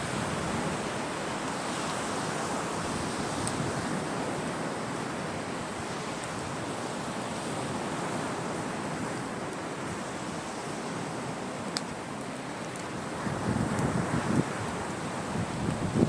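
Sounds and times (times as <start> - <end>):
sea surf washing onto shore: 0.0 - 16.0.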